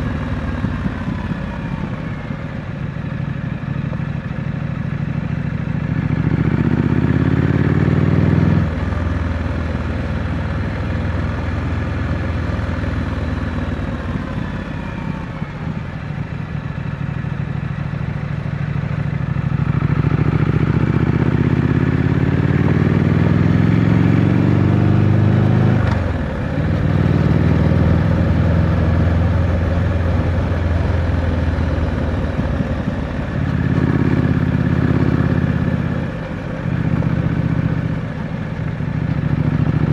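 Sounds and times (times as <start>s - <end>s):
motorcycle engine revving: 3.0s - 39.9s.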